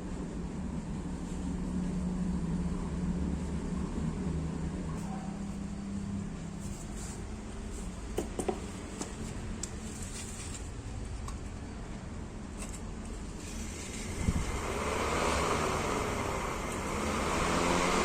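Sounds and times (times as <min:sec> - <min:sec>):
exhaust fan moving air: 0:00.0 - 0:18.0
low motor hum: 0:00.0 - 0:18.0.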